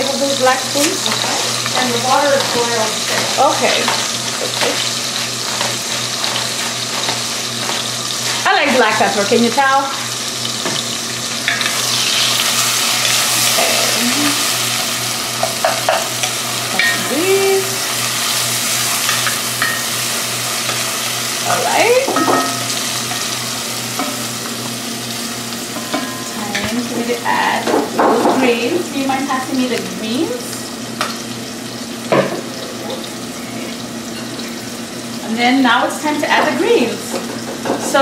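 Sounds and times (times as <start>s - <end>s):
vegetables sizzling in oil: 0.0s - 38.0s.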